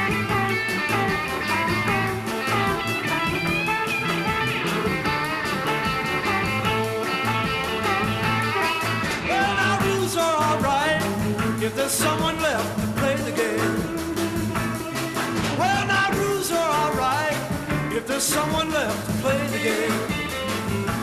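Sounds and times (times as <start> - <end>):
bass and drum beat: 0.0 - 21.0
bending lead guitar line: 0.0 - 21.0.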